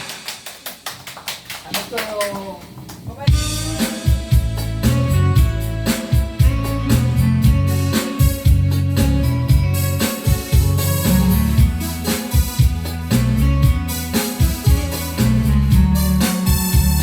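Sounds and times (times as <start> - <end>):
instrumental backing music: 3.3 - 17.0.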